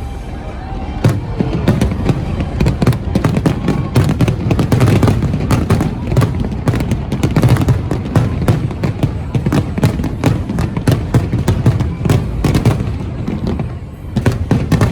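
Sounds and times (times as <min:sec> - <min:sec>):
fireworks bangs and crackling: 0:00.9 - 0:14.9.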